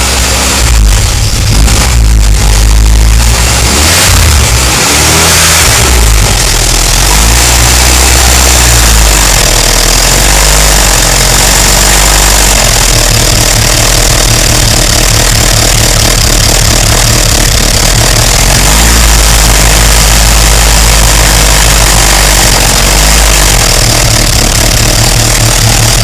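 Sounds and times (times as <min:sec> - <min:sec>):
engine rumbling: 0:00.0 - 0:26.0
high engine whine: 0:00.0 - 0:26.0.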